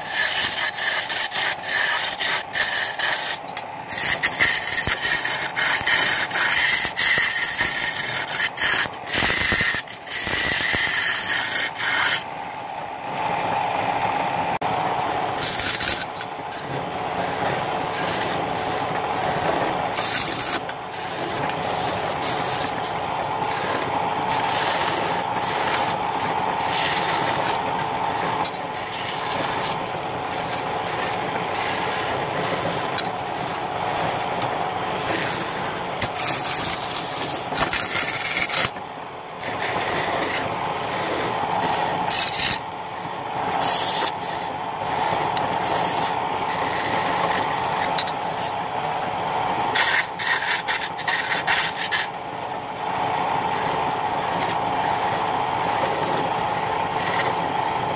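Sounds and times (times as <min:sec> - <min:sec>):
chisel scraping spinning wood: 0:00.0 - 0:12.4, 0:14.6 - 0:52.2, 0:53.0 - 0:57.9
wood lathe whining: 0:00.0 - 0:57.9.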